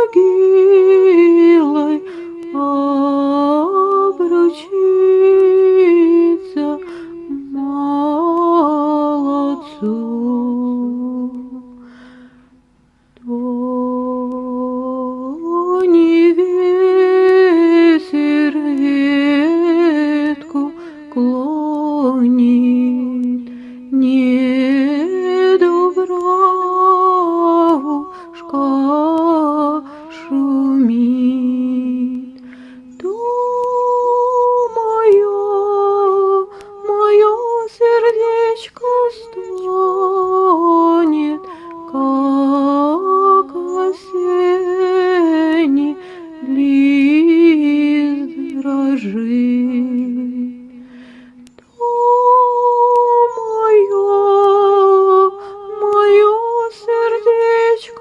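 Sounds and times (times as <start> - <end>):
woman singing folk song: 0.0 - 58.0.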